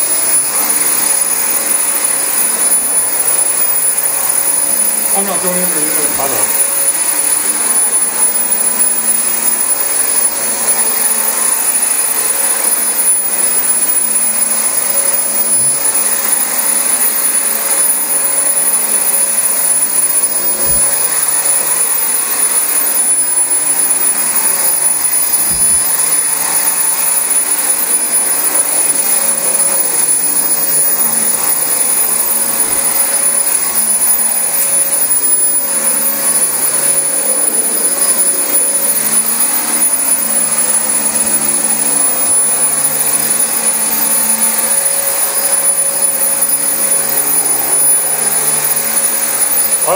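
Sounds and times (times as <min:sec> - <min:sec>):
vacuum cleaner running on carpet: 0:00.0 - 0:49.9.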